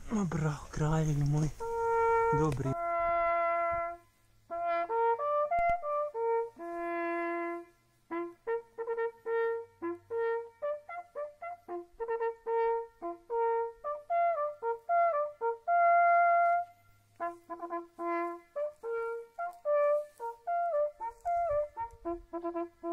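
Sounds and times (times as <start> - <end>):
hunting horn call: 0.0 - 22.9.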